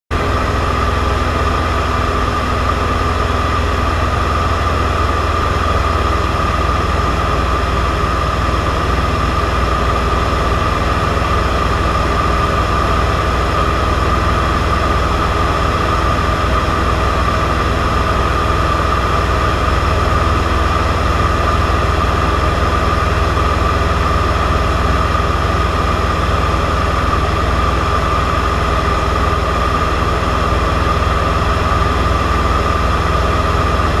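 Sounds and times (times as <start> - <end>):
plane engine drone in cabin: 0.1 - 34.0.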